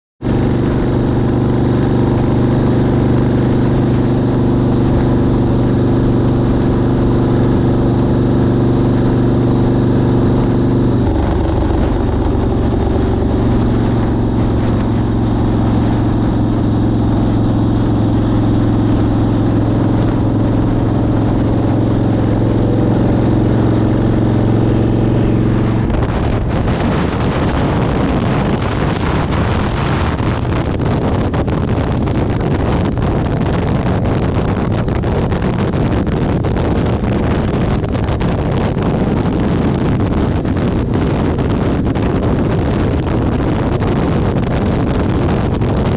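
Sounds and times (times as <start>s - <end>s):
motorcycle engine running: 0.2s - 45.9s
wind rushing on microphone: 0.2s - 45.9s.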